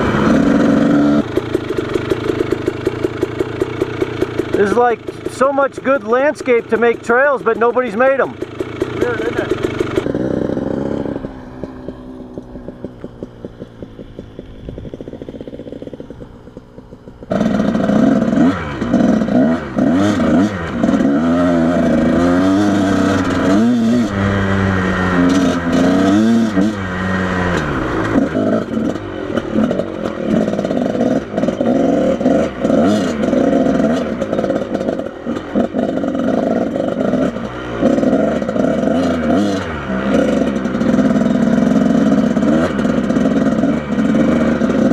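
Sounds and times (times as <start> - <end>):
motorcycle clattering and scraping: 0.0 - 44.9
motorcycle engine revving: 0.0 - 44.9.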